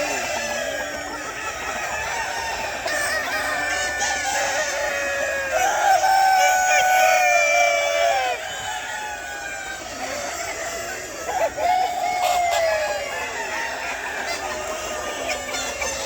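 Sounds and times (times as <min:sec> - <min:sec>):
chickens clucking: 0:00.0 - 0:16.0
rooster crowing: 0:01.7 - 0:16.0.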